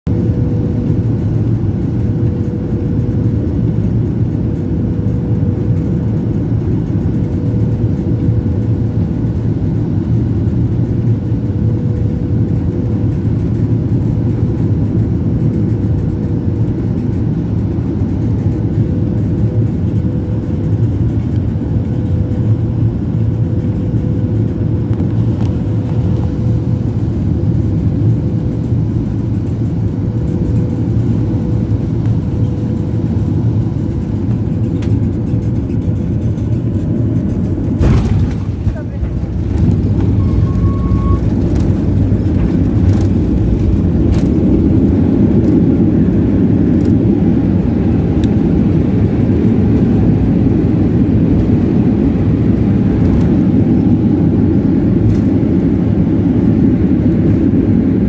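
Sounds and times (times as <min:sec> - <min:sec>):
aircraft engines droning: 0:00.1 - 0:58.0.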